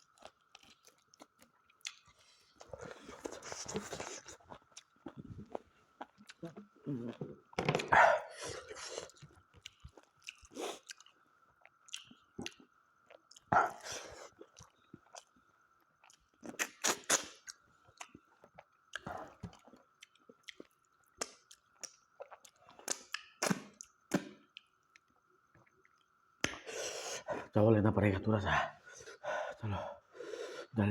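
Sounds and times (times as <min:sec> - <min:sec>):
person chewing food: 0:00.0 - 0:07.6, 0:08.2 - 0:27.5.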